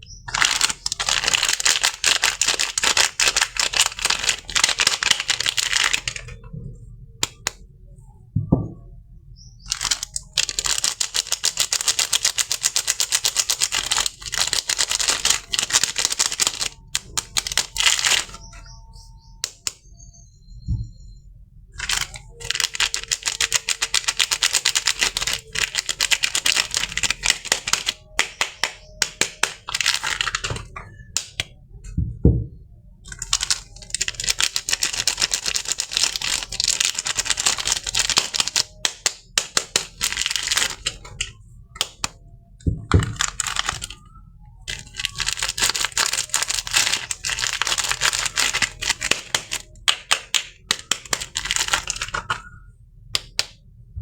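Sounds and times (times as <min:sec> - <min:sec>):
packaging crackling and crinkling: 0:00.1 - 0:06.5, 0:09.6 - 0:19.8, 0:21.8 - 0:31.5, 0:33.0 - 0:52.6.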